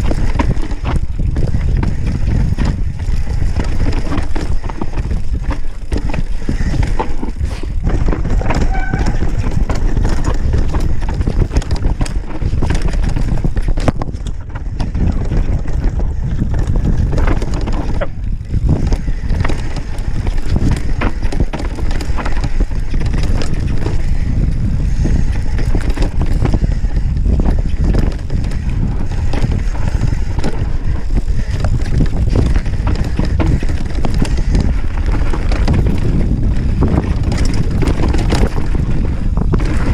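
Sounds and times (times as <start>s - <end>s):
bike rattling over bumps: 0.0s - 39.9s
tyres running over dirt: 0.0s - 39.9s
wind buffeting microphone: 0.0s - 39.9s.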